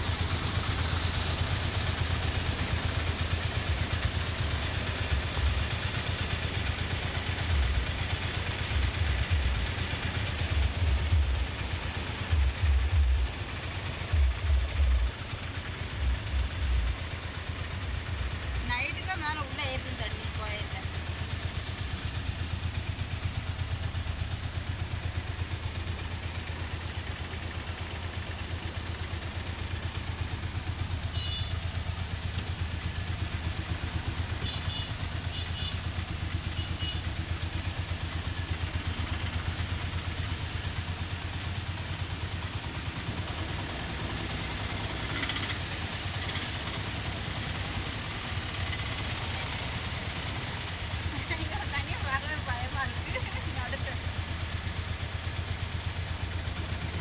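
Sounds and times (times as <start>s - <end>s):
small engine idling: 0.0s - 57.0s.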